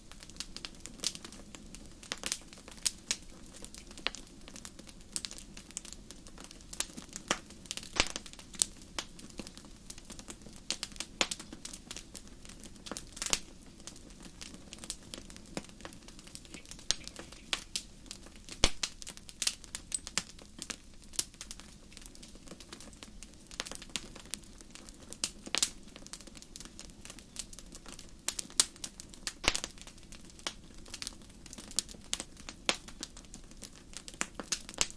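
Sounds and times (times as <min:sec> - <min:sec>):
low steady hiss: 0:00.0 - 0:34.9
wood fire crackling and popping: 0:00.0 - 0:34.9.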